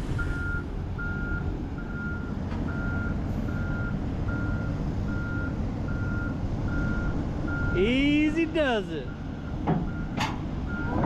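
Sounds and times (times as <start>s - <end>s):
diesel engine rumble: 0.0s - 11.0s
excavator travel alarm beeping: 0.2s - 11.0s.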